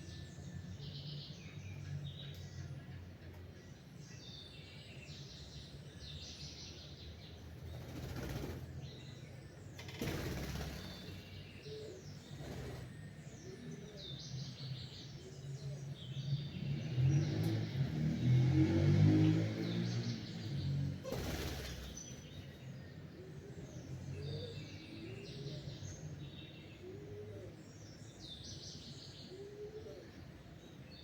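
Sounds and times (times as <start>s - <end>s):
songbirds chirping and singing: 0.0s - 31.0s.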